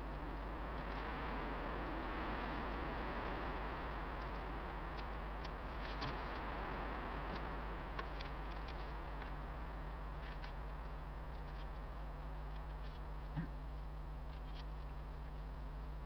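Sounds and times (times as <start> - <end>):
charcoal ticks and crackles: 0.0 - 15.8.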